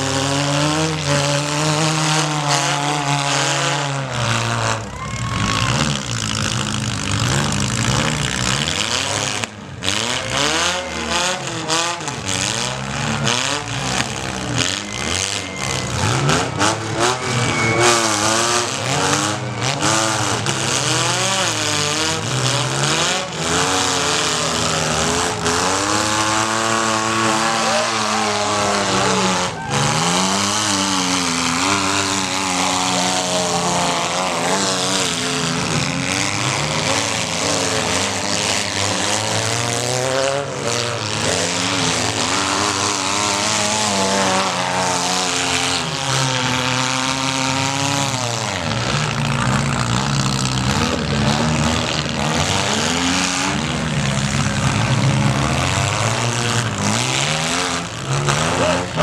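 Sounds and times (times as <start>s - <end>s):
small car engines revving: 0.0s - 59.0s.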